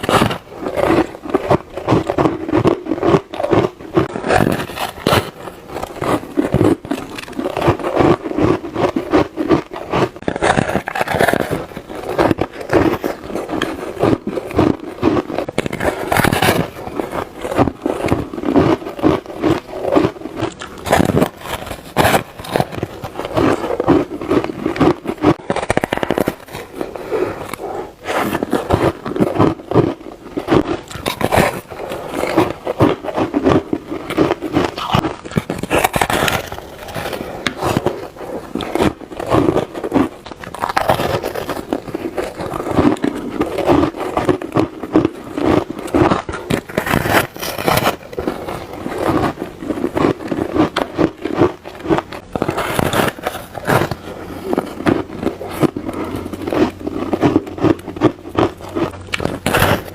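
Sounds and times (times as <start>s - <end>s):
ice crunching while chewed: 0.0s - 59.9s.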